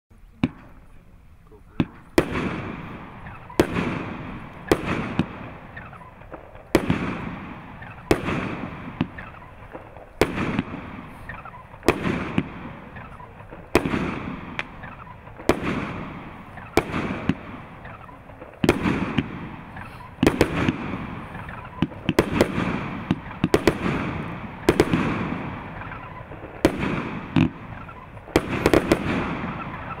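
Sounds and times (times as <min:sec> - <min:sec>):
firework bangs with rolling echo: 0:00.3 - 0:01.0, 0:01.6 - 0:30.0.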